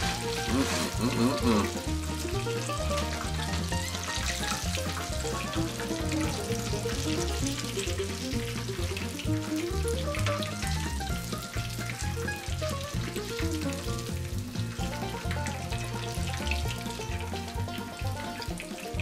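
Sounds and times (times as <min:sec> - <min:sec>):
background music with bass line: 0:00.0 - 0:19.0
chicken wings frying in oil: 0:00.0 - 0:19.0.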